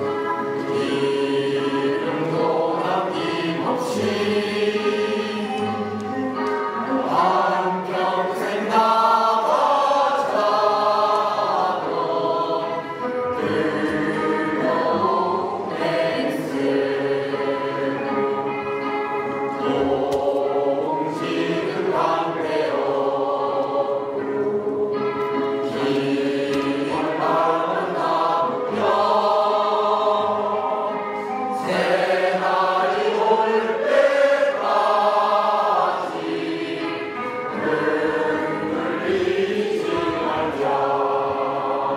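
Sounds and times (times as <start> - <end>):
choir singing held notes: 0.0 - 41.9.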